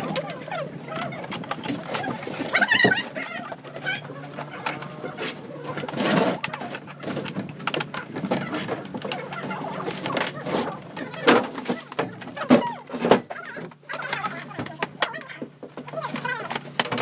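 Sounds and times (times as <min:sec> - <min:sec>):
plastic panels clicking and knocking: 0:00.0 - 0:17.0.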